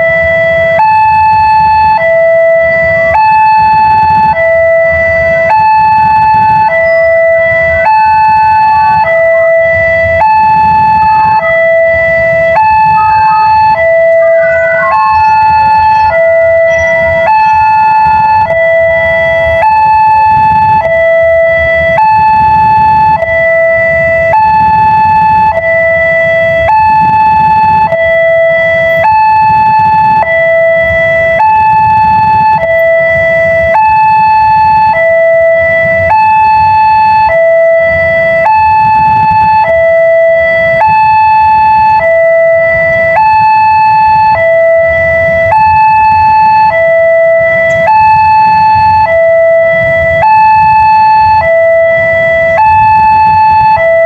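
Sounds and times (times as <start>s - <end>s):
two-tone warning siren: 0.0s - 54.0s.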